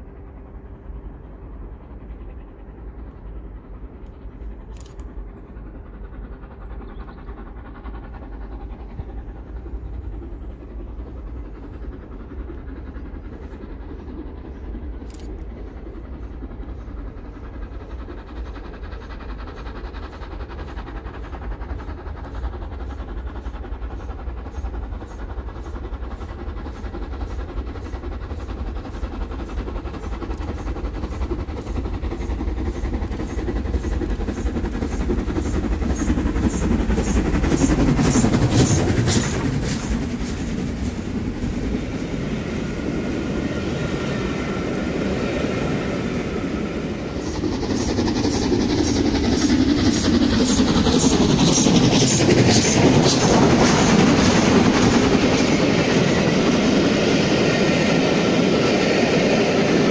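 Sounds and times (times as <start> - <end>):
steam locomotive approaching: 0.0 - 59.9
steam locomotive exhaust beats: 0.0 - 59.9.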